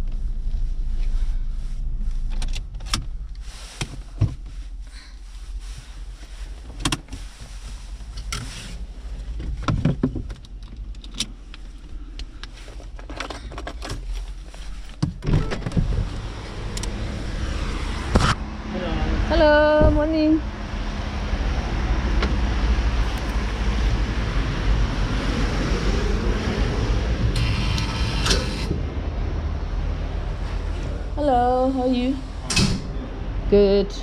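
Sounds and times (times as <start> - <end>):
car engine low rumble: 0.0 - 34.0.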